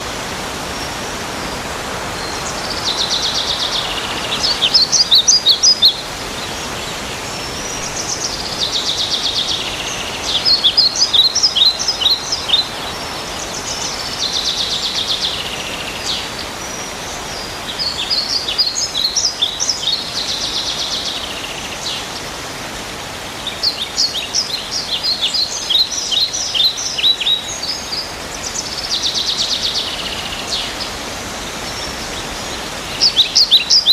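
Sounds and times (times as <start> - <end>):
songbird singing: 0.0 - 33.9
steady outdoor hiss: 0.0 - 33.9.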